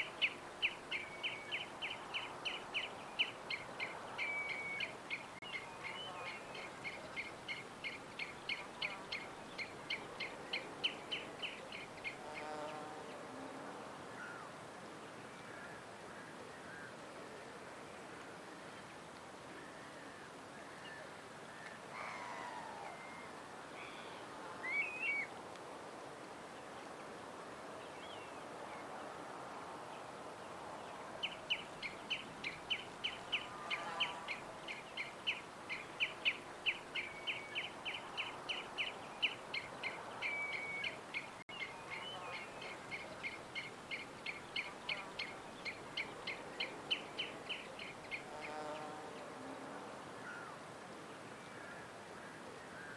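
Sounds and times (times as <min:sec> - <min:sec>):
outdoor background hiss: 0:00.0 - 0:52.9.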